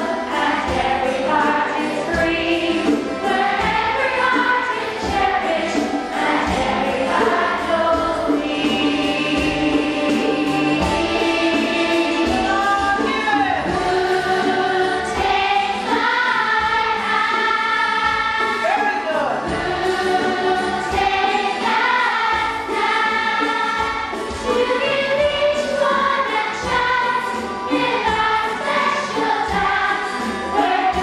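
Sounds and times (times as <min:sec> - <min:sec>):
children's choir singing: 0:00.0 - 0:31.0
live band playing: 0:00.0 - 0:31.0
steady drum beat: 0:00.0 - 0:31.0.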